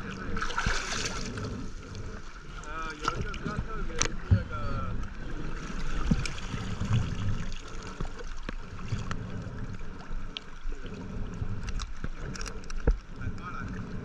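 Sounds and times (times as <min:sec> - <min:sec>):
low uneven rumble: 0:00.0 - 0:14.0
water sloshing and gurgling: 0:00.0 - 0:14.0.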